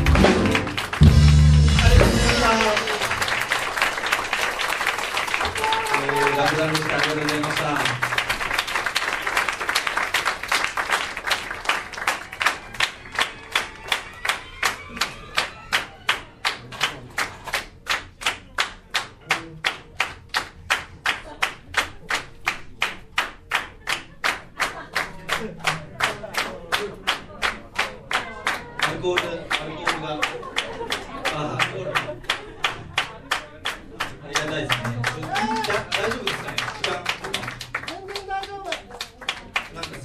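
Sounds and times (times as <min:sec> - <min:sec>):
audience clapping in unison: 0:00.0 - 0:40.0.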